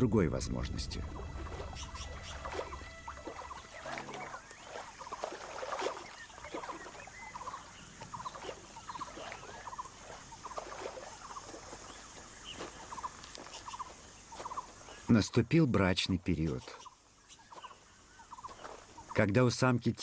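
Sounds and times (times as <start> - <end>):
animals chirping and trilling: 1.1 - 15.2, 16.4 - 19.3.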